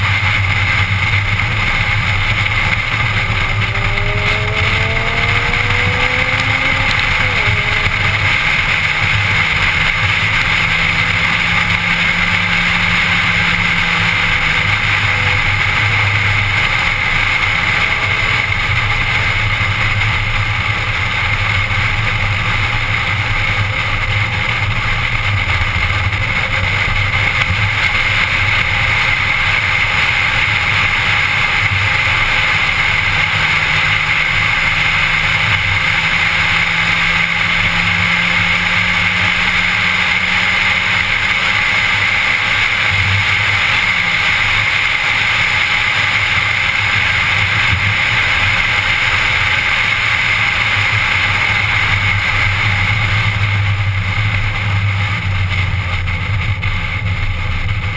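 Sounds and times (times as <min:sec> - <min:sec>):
car engine accelerating: 0:00.0 - 0:57.9
tyre road noise: 0:00.0 - 0:57.9.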